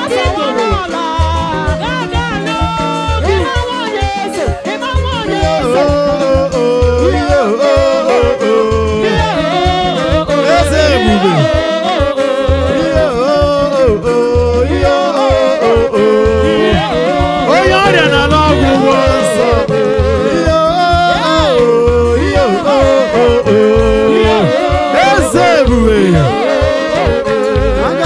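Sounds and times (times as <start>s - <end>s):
band with bass and drums: 0.0s - 28.0s
gospel singing: 0.0s - 28.0s.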